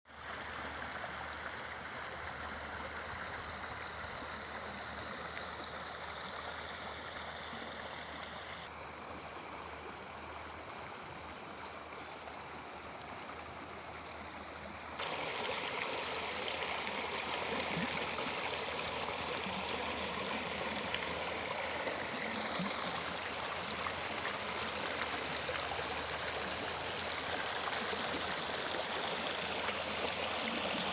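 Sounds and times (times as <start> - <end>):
stream water rushing and gurgling: 0.1 - 30.9.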